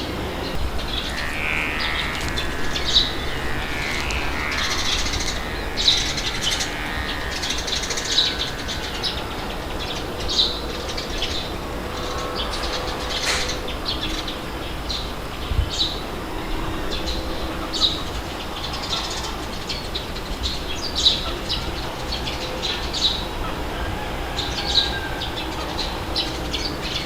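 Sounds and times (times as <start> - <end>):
birds chirping: 0.0 - 27.0
low wind rumble: 0.0 - 27.0.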